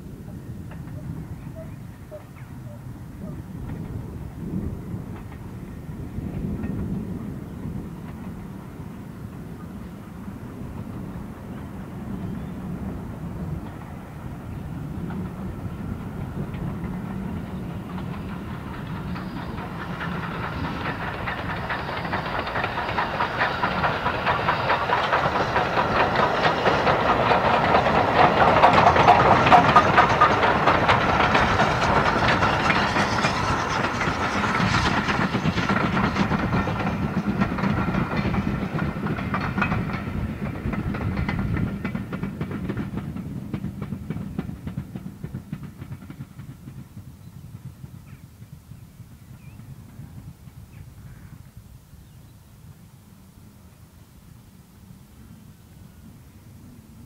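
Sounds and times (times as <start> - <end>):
steam locomotive exhaust: 0.0 - 52.0
train wheels clattering over rail joints: 3.6 - 51.3.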